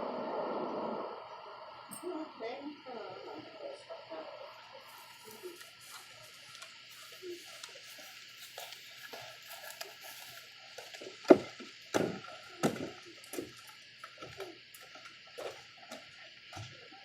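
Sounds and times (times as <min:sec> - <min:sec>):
faint insect hiss: 0:00.0 - 0:17.0.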